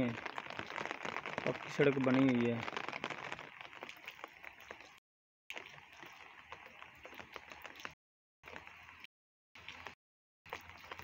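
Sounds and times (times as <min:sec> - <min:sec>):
light rain patter: 0:00.0 - 0:11.0.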